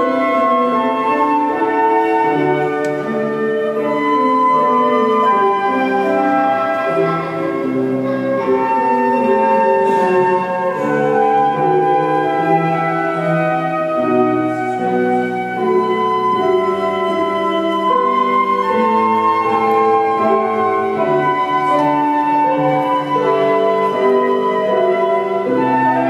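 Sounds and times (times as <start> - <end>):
piano accompaniment: 0.0 - 26.0
two flutes playing a slow melody: 0.0 - 26.0.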